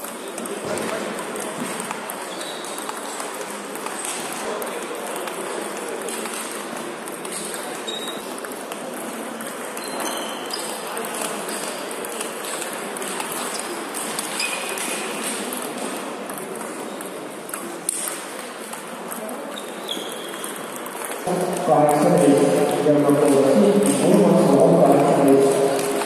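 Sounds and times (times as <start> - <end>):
table tennis ball clicking: 0.1 - 26.0.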